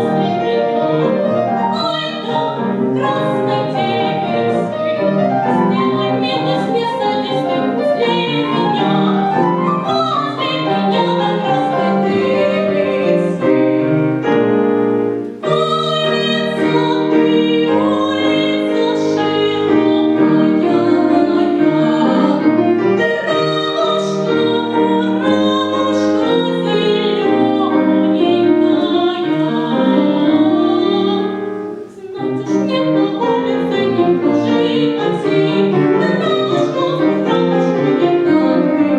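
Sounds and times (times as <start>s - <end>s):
operatic singing: 0.0s - 14.5s, 15.4s - 38.9s
piano accompaniment: 0.0s - 38.9s.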